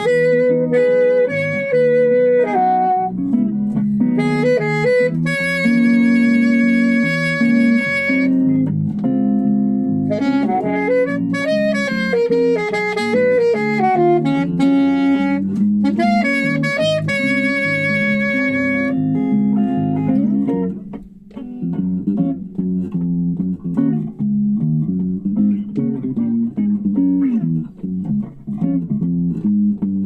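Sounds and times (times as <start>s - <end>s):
saxophone melody: 0.0s - 24.1s
bass guitar: 0.0s - 30.0s
electric guitar: 0.0s - 30.0s.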